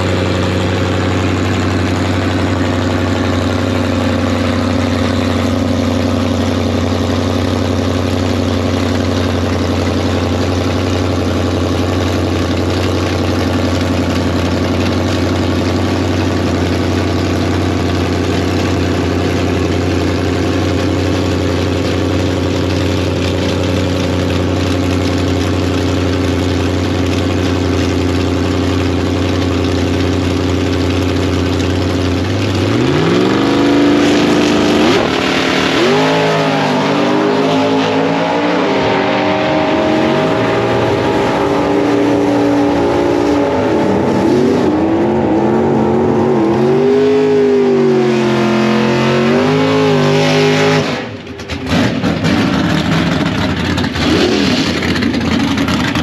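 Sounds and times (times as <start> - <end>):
race car engine revving: 0.0 - 27.2, 29.9 - 56.0.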